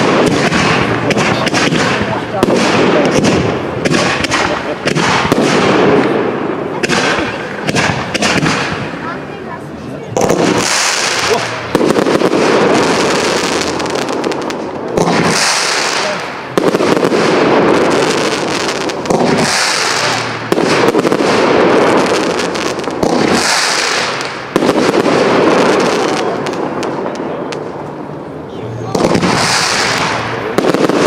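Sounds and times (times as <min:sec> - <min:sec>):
fireworks bursting with crackling: 0:00.0 - 0:31.0.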